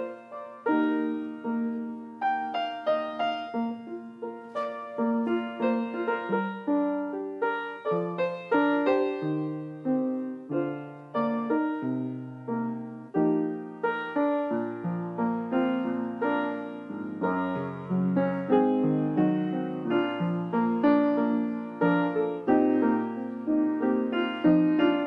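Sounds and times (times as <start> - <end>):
slow solo piano music: 0.0 - 25.0.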